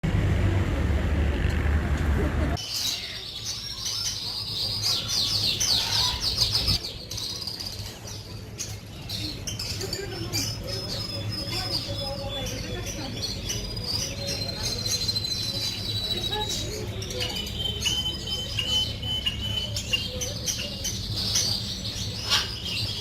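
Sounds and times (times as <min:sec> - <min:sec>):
caged birds chirping: 0:02.5 - 0:23.0.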